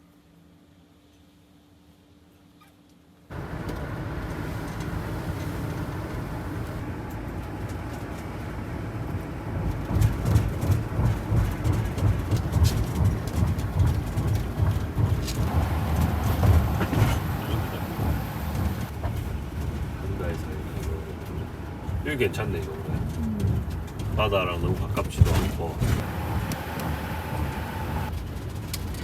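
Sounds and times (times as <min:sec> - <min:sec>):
vehicle rumble: 0:03.3 - 0:29.0.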